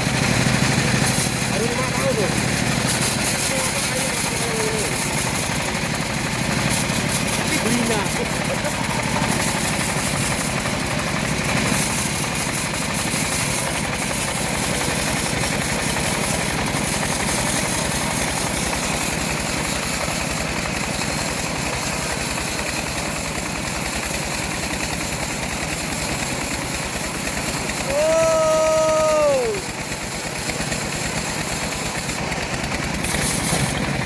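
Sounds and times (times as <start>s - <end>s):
bandsaw mill engine running: 0.0s - 34.0s.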